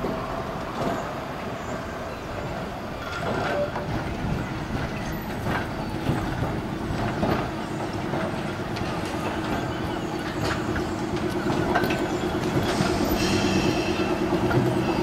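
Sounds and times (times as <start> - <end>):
tram wheels rumbling over rail joints: 0.0 - 15.0.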